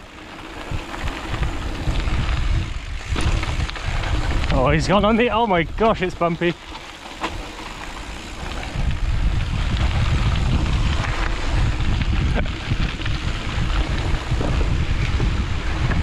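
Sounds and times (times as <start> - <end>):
tyres rumbling over ground: 0.0 - 16.0
wind buffeting microphone: 0.0 - 16.0.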